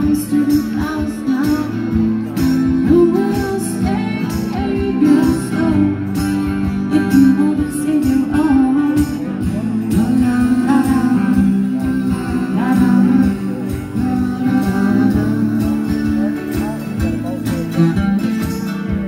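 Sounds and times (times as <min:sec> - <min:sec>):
bass: 0:00.0 - 0:19.0
drums: 0:00.0 - 0:19.0
electric guitar: 0:00.0 - 0:19.0
strummed mandolin: 0:00.0 - 0:19.0.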